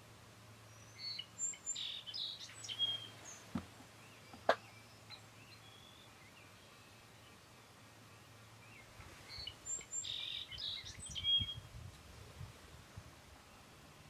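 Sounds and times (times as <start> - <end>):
songbirds chirping and whistling: 0.5 - 11.8.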